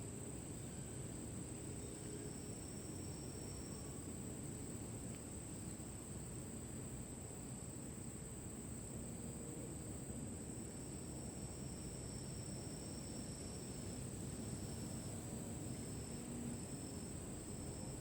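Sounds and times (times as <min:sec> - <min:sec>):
insects high-pitched drone: 0:00.1 - 0:08.9, 0:10.2 - 0:18.0.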